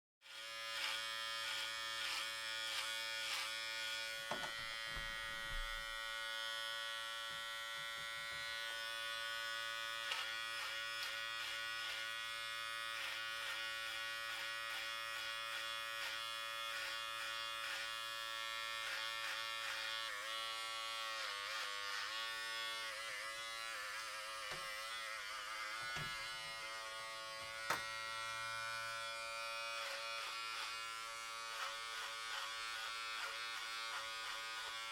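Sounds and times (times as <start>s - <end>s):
hair clippers buzzing: 0.2s - 34.9s.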